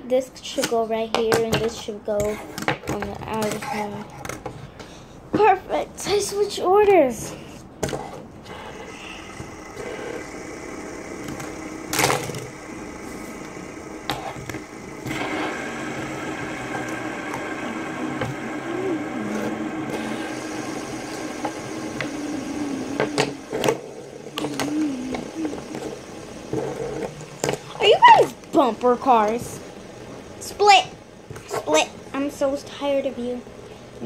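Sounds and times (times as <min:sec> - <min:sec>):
fidget spinners whirring: 0:00.5 - 0:04.5, 0:05.7 - 0:34.0.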